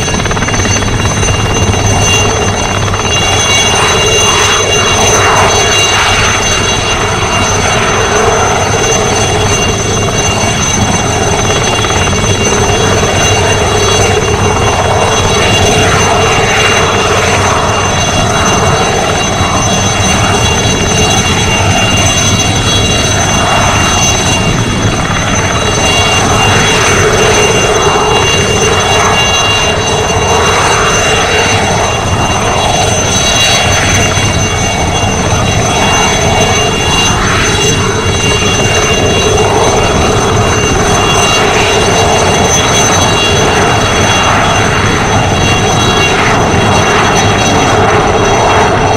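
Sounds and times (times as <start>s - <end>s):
helicopter engine whine: 0.0s - 48.9s
helicopter rotor noise: 0.0s - 48.9s.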